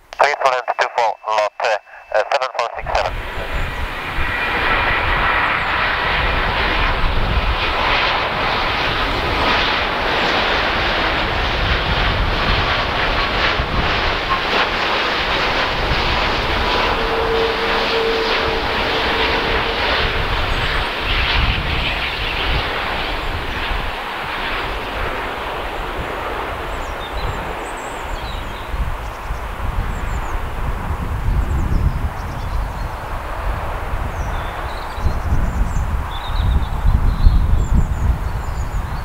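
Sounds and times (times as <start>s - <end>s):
faint jet whine: 0.0s - 38.8s
jet airliner roar: 0.0s - 39.0s.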